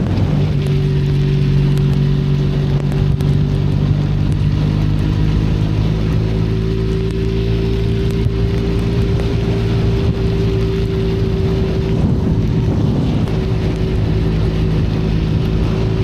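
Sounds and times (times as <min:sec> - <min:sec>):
motorcycle engine running: 0:00.0 - 0:16.0
rain hissing: 0:00.0 - 0:16.0
wind: 0:00.0 - 0:16.0.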